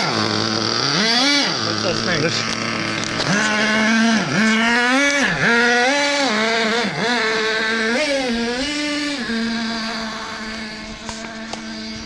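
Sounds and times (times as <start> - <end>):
toy car motor buzzing: 0.0 - 12.0.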